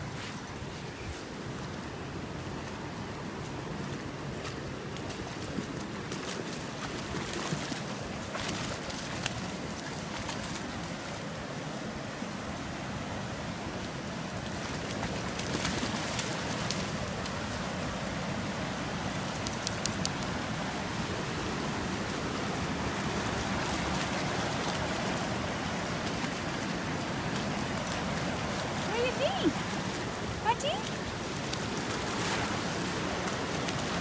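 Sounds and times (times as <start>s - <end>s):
creek rushing: 0.0s - 34.0s.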